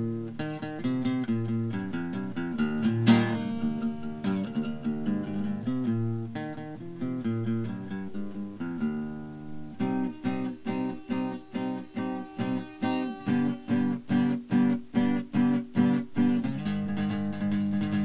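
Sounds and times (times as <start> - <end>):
acoustic guitar picking and strumming: 0.0 - 18.0.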